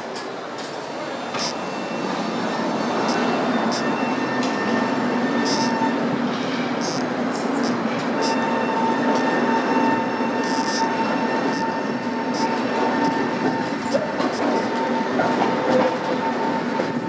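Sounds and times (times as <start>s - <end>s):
tram rolling rumble: 0.0s - 17.0s.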